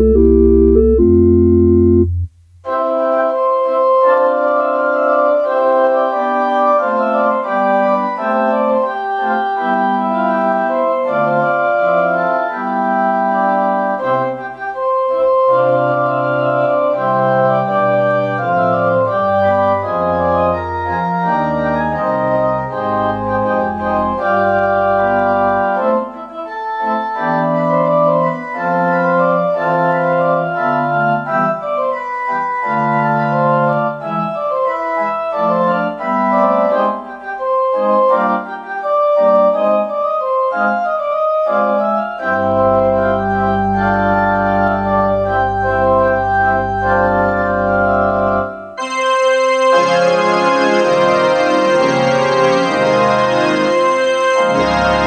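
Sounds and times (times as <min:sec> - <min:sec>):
deep organ pedal notes: 0:00.0 - 0:02.4, 0:04.4 - 0:34.7, 0:35.3 - 0:55.0
organ playing chords: 0:00.0 - 0:02.8, 0:04.3 - 0:55.0.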